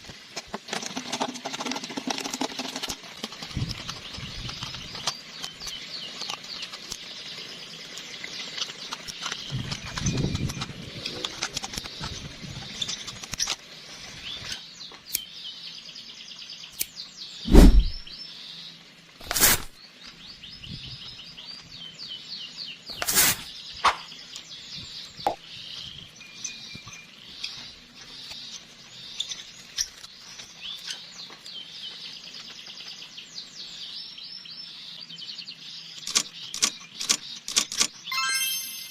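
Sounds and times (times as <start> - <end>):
small birds chirping: 2.1 - 38.9.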